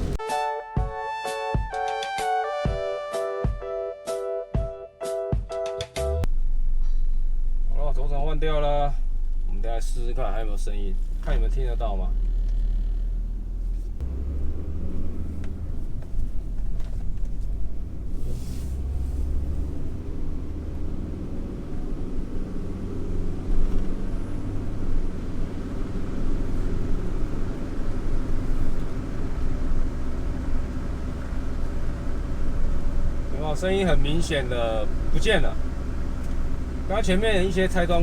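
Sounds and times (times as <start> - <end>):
road and tyre rumble in car: 0.0 - 0.2, 6.2 - 38.0.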